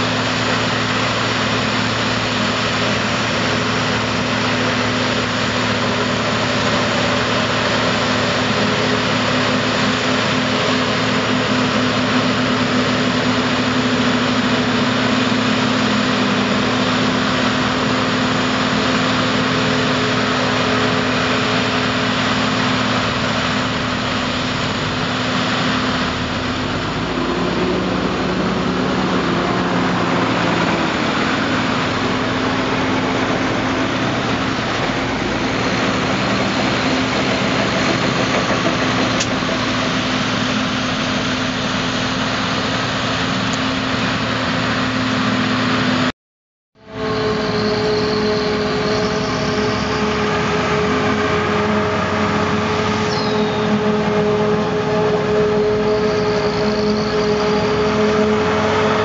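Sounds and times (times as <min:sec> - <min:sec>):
forage harvester engine and chopper: 0:00.0 - 0:46.1, 0:46.8 - 0:59.0
tractor pulling trailer: 0:00.0 - 0:46.1, 0:46.8 - 0:59.0.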